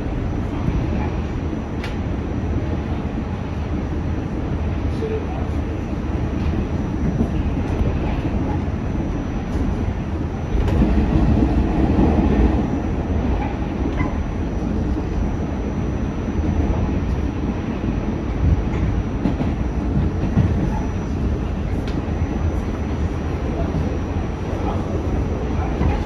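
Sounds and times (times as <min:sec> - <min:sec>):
subway train rumbling on rails: 0:00.0 - 0:26.0.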